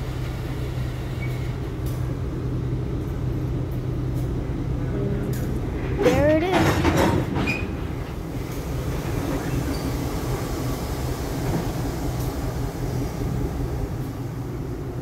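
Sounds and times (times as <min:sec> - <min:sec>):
diesel locomotive engine rumble: 0:00.0 - 0:15.0
freight cars rolling on rails: 0:00.0 - 0:15.0.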